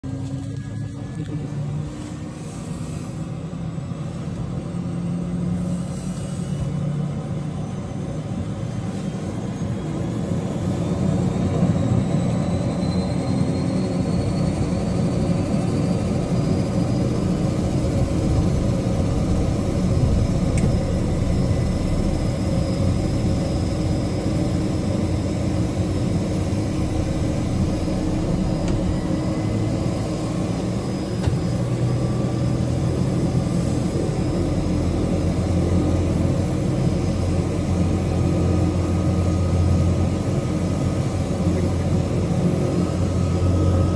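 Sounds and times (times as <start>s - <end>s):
turboprop engine drone: 0.0s - 43.9s
faint rising whine: 0.1s - 43.9s.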